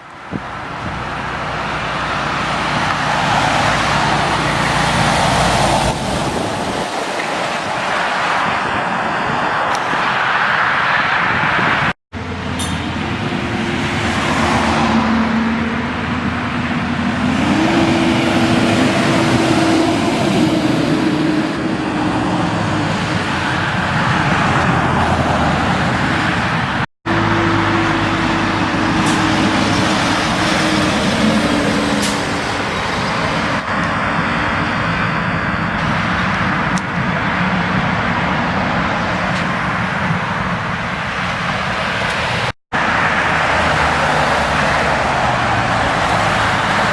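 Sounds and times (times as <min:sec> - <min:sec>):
heavy truck diesel engines: 0:00.0 - 0:46.9
road noise: 0:00.0 - 0:46.9.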